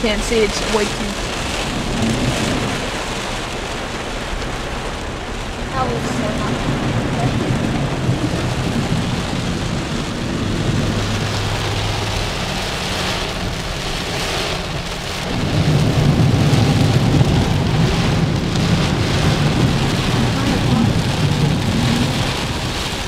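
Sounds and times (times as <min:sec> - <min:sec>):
heavy rain falling: 0:00.0 - 0:23.0
low rumble: 0:00.0 - 0:23.0.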